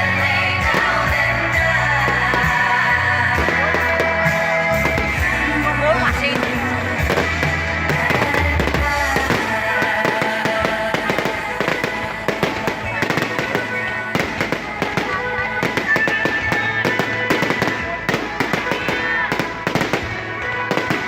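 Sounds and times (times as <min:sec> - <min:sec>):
fireworks bangs and crackles: 0:00.0 - 0:21.0
music: 0:00.0 - 0:21.0
voices: 0:00.0 - 0:21.0.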